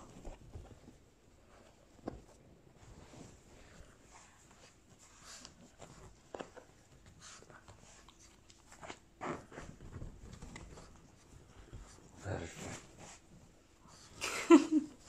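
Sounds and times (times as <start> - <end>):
dogs rustling on couch: 0.0 - 15.0.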